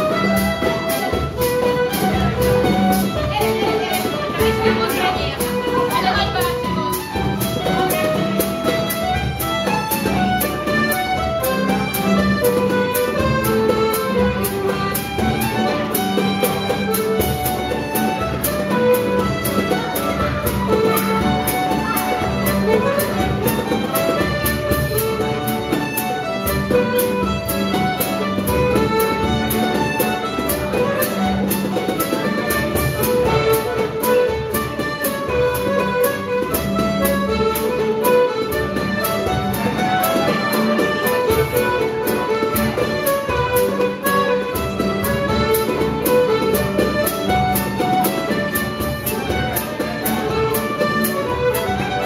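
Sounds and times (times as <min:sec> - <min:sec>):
lively dance band tune: 0:00.0 - 0:52.0.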